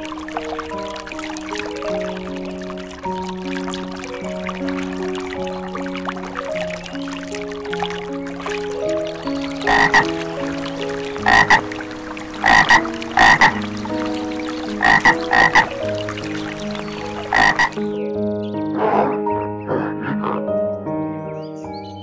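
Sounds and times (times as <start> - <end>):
frog croaking: 0.0 - 18.0, 18.7 - 20.5
background music with sustained notes: 0.0 - 22.0.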